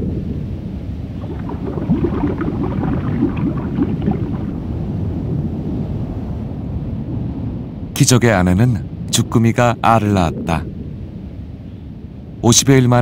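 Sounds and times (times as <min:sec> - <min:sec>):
low underwater rumble: 0:00.0 - 0:07.9, 0:08.8 - 0:12.4.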